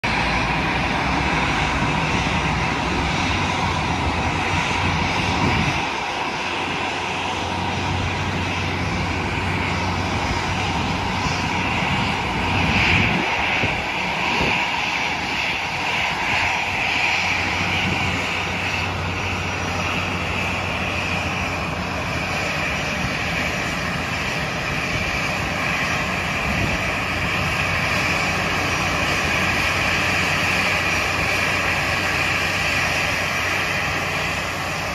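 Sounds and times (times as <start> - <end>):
jet engines taxiing: 0.0 - 34.9.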